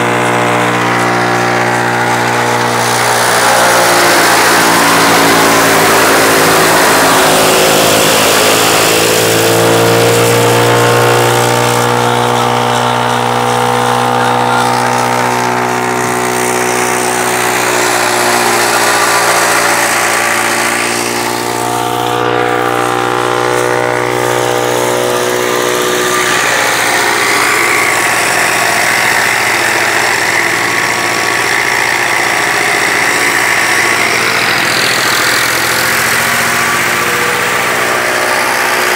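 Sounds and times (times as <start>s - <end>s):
silage chopper shredding stalks: 0.0s - 38.9s.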